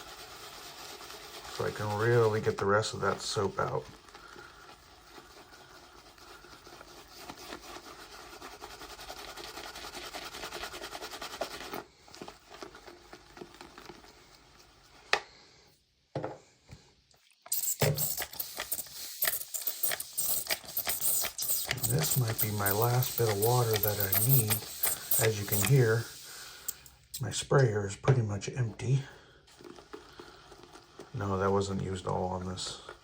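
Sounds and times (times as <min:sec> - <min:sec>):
shaving brush scrubbing lather in bowl: 0:00.0 - 0:15.0, 0:17.3 - 0:33.0.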